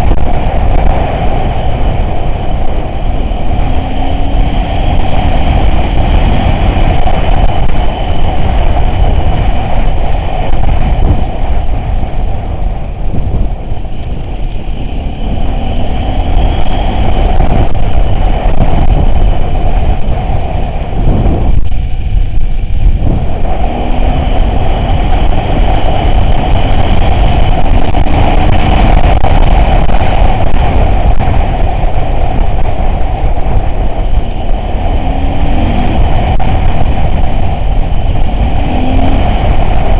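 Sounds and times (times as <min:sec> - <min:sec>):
off-road vehicle engine running: 0:00.0 - 0:39.9
rumble and rattle of driving: 0:00.0 - 0:39.9.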